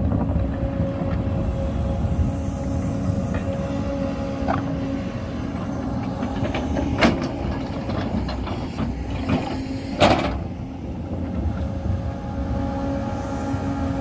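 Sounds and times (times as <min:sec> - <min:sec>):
diesel excavator engine running: 0:00.0 - 0:14.0.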